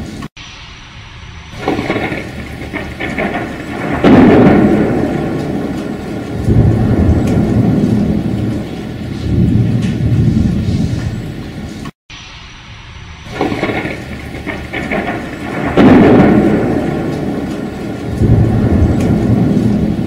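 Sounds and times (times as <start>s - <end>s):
rain: 0.0s - 20.0s
thunder clap and rumble: 0.0s - 20.0s.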